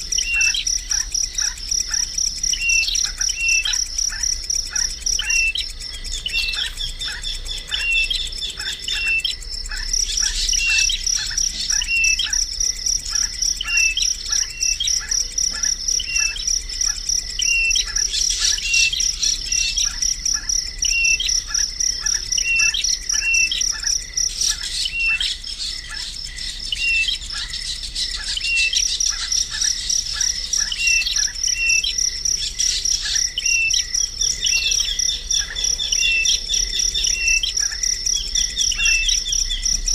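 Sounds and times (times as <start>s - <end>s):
bird chirping: 0.0s - 39.9s
high-pitched insect trill: 0.0s - 39.9s.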